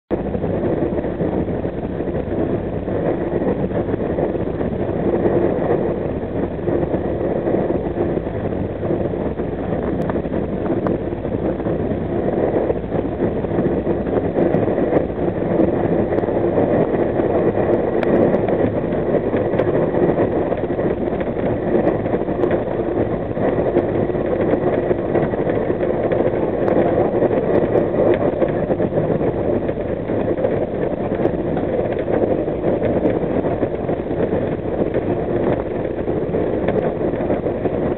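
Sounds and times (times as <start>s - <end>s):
faint steady hum: 0.1s - 37.9s
train rumble and rail noise: 0.1s - 37.9s.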